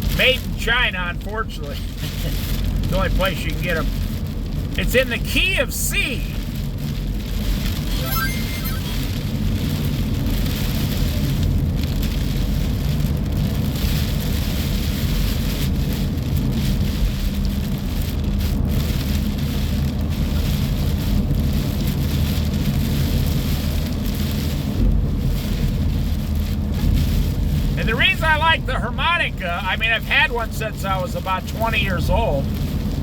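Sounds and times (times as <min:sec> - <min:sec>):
rain on a car: 0:00.0 - 0:33.0
road and engine rumble: 0:00.0 - 0:33.0.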